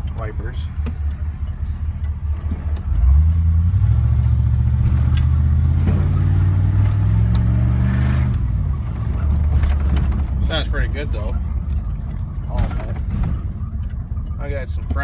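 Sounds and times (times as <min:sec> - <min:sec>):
truck engine revving: 0:01.0 - 0:15.0.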